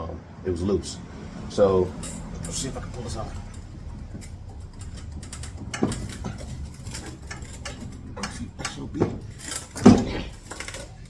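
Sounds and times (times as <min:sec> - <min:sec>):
small metal parts clicking and rattling: 0:00.8 - 0:11.0.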